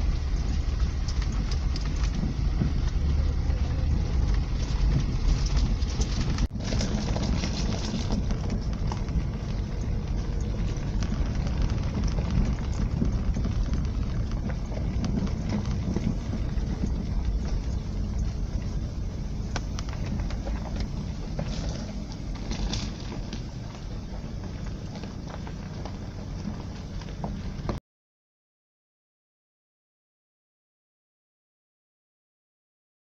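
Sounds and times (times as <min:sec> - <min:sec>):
car engine and tyres rumbling: 0:00.0 - 0:27.8
light ticks under wheels: 0:00.0 - 0:27.8.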